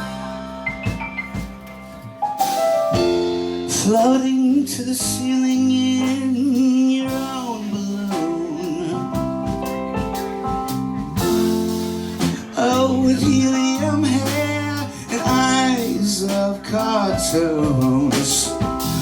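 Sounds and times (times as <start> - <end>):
guitar: 0.0 - 19.0
live band playing: 0.0 - 19.0.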